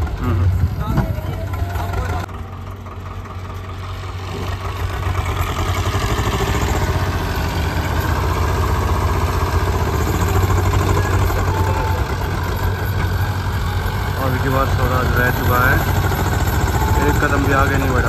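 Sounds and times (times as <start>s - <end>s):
tractor diesel engine revving: 0.0s - 18.0s.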